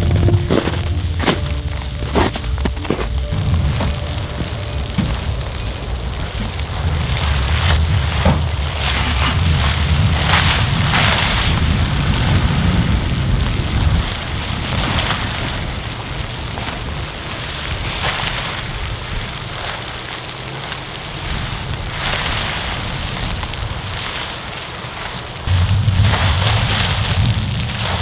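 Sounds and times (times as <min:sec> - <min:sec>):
hiss of falling snow: 0:00.0 - 0:28.0
low wind rumble: 0:00.0 - 0:28.0
wind gusts: 0:00.0 - 0:28.0.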